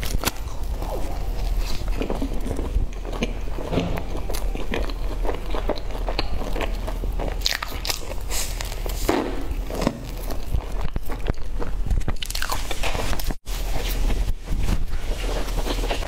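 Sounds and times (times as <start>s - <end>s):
crunching and chewing pastry: 0.0s - 16.0s.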